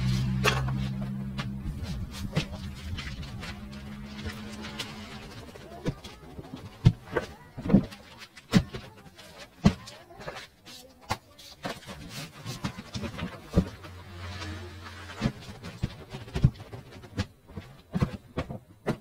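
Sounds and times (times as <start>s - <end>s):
paper and box thumping: 0.2s - 19.0s.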